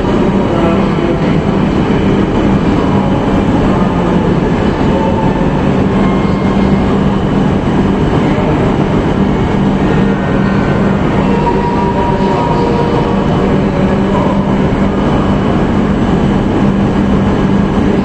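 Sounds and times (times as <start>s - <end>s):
train equipment humming: 0.0s - 18.0s.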